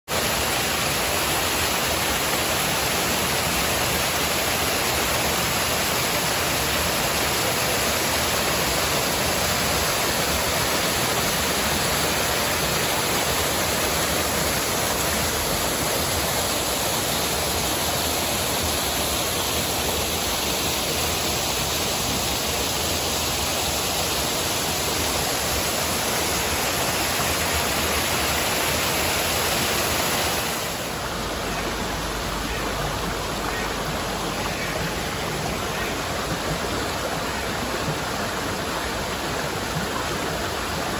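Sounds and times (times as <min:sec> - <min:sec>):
waterfall splashing into pool: 0:00.1 - 0:40.9.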